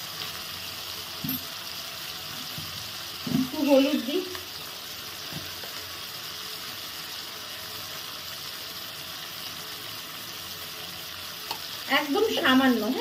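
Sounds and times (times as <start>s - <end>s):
spice paste sizzling in a wok: 0.0s - 13.0s.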